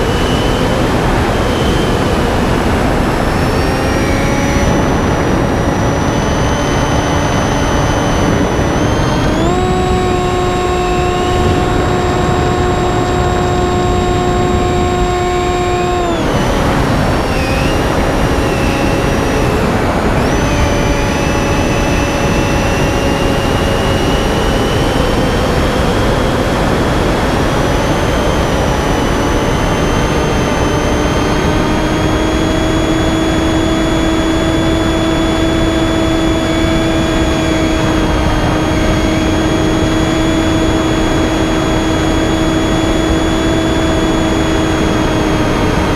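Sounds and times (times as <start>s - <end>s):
model plane motor whining: 0.0s - 45.9s
wind rush: 0.0s - 45.9s.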